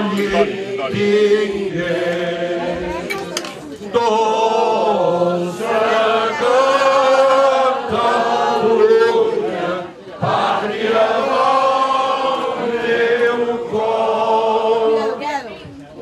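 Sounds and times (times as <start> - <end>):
group of people singing: 0.0 - 15.6.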